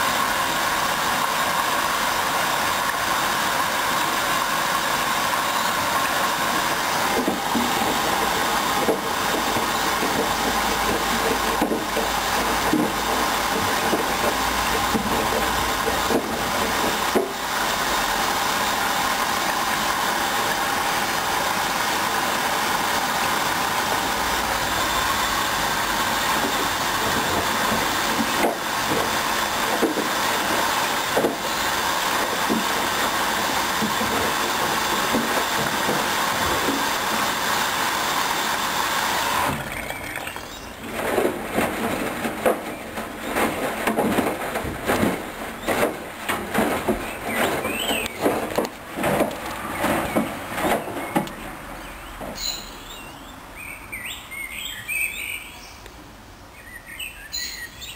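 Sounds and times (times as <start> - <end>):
washing machine humming: 0.0 - 52.3.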